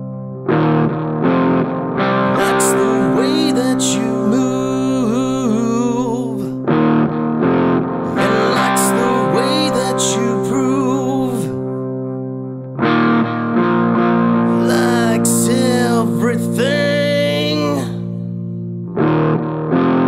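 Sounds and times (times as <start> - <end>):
distorted electric guitar music: 0.0 - 20.0.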